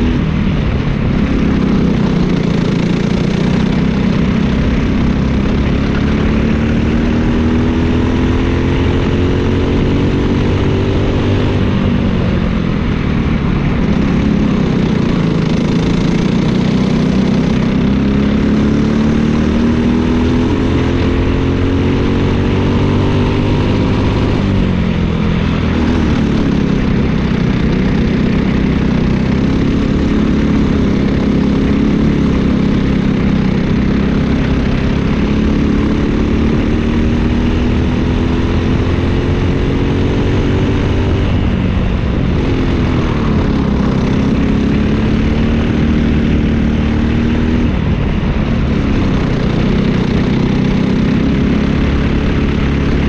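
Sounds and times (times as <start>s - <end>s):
kart engine running: 0.0s - 53.0s.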